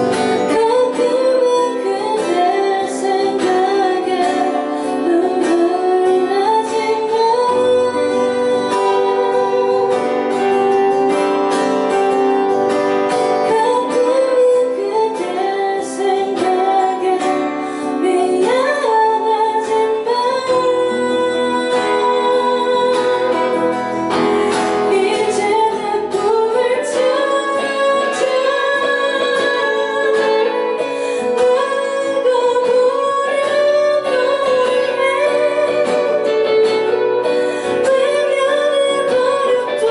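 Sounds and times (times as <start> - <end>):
guitar accompaniment: 0.0 - 39.9
woman singing: 0.0 - 39.9.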